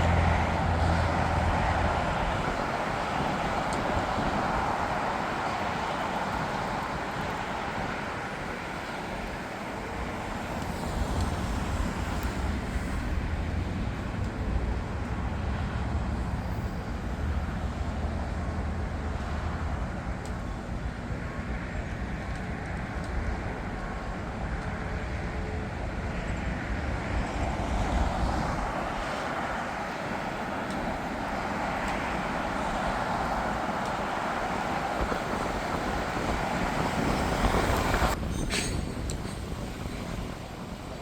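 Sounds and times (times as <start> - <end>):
jet engines rushing and rumbling: 0.0 - 41.0.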